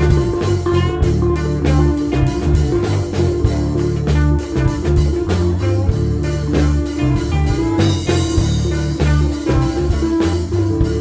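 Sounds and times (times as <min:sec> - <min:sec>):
electric guitar instrumental music: 0:00.0 - 0:11.0.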